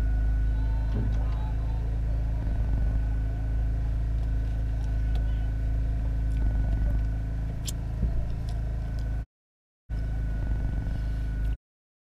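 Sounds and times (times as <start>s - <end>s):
low mechanical motor hum: 0.0s - 9.3s, 9.9s - 11.6s.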